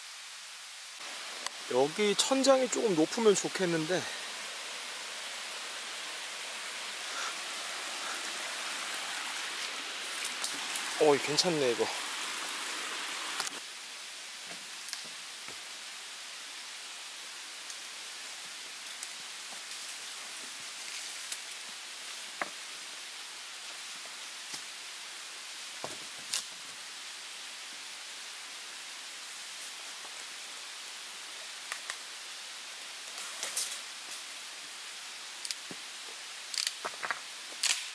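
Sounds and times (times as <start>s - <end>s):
mountain stream rushing: 0.0s - 37.9s.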